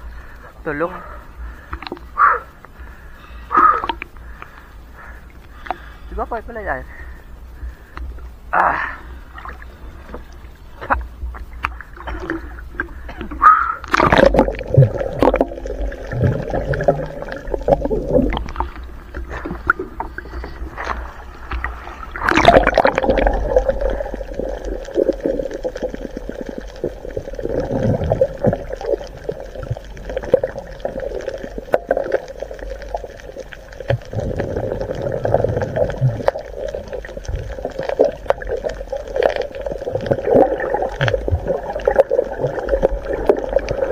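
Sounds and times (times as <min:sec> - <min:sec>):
muffled water gurgling and sloshing: 0:00.0 - 0:43.9.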